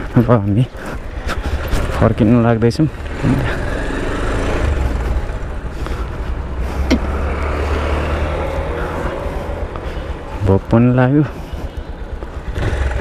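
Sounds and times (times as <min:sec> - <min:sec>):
motorcycle engine running: 0:01.0 - 0:13.0.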